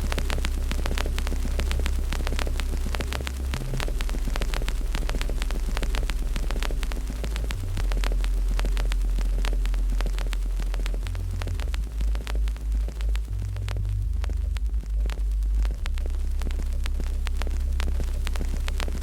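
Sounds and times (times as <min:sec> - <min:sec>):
low rumble: 0:00.0 - 0:19.0
wood fire crackling and popping: 0:00.0 - 0:19.0.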